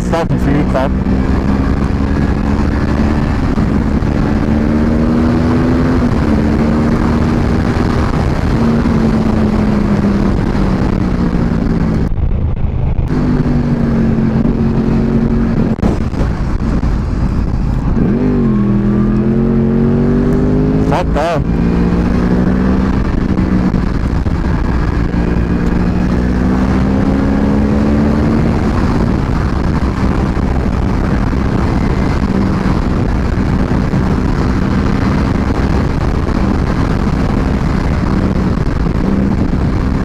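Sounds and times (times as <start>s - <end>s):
motorcycle engine at speed: 0.0s - 40.0s
wind rush on microphone: 0.0s - 40.0s.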